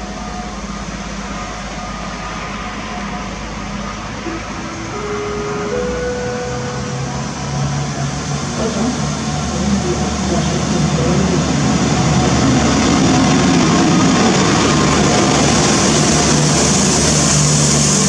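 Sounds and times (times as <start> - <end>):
low engine drone: 0.0 - 18.0
wheels rumbling on rail: 0.0 - 18.0.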